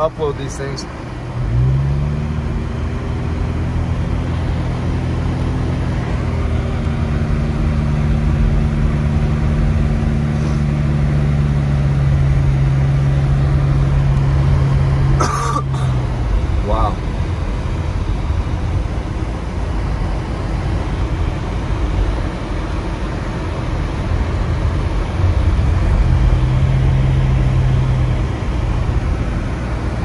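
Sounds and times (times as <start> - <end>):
car engine humming: 0.0 - 30.0.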